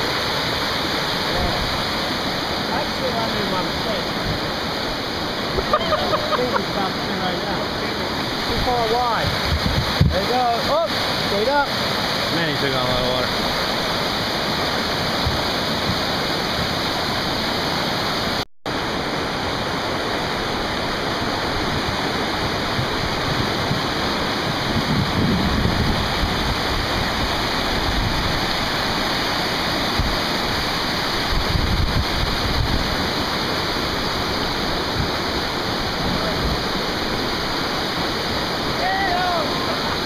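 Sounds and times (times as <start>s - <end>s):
river rapids roaring: 0.0s - 40.0s.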